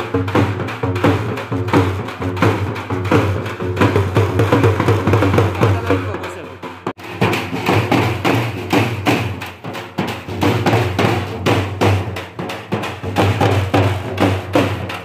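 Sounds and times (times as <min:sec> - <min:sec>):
procession drums fast rhythm: 0:00.0 - 0:15.0.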